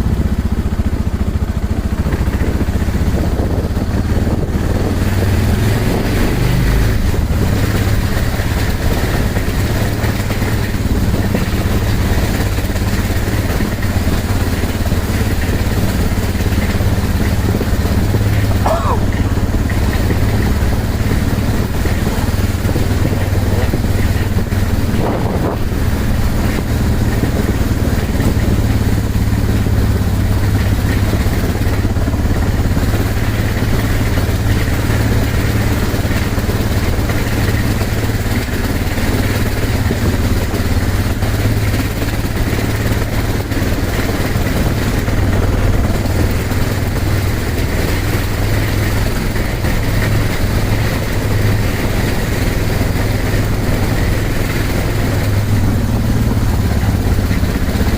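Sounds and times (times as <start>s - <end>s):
motorcycle engine running: 0.0s - 57.9s
road noise: 0.0s - 57.9s.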